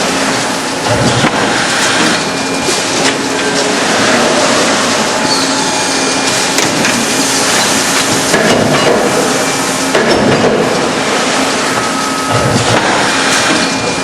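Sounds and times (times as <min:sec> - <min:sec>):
machinery clatter: 0:00.0 - 0:14.0.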